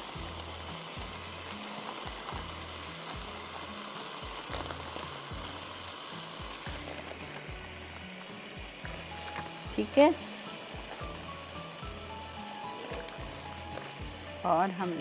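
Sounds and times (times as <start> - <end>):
food sizzling in a frying pan: 0.0 - 15.0
soft background music: 0.0 - 15.0.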